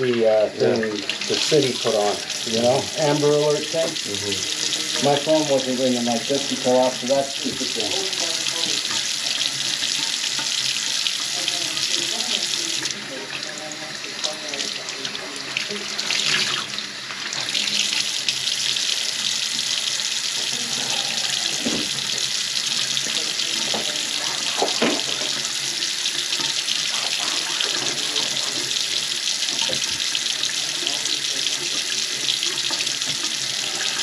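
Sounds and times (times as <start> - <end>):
faucet water running into sink: 0.0 - 34.0.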